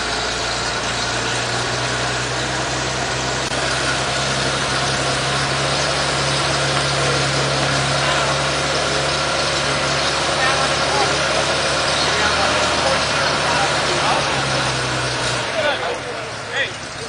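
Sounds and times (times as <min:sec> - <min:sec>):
fire engine engine humming: 0:00.0 - 0:17.0.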